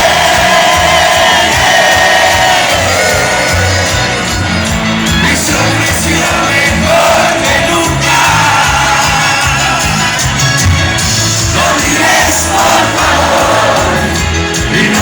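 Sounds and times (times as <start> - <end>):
crowd shouting and singing along: 0.0 - 15.0
live band with singing: 0.0 - 15.0.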